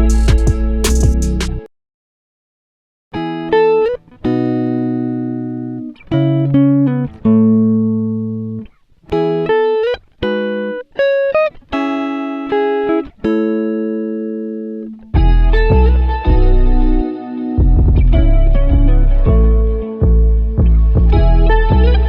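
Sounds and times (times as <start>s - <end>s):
clean guitar notes and chords: 0.0s - 1.7s, 3.2s - 22.0s.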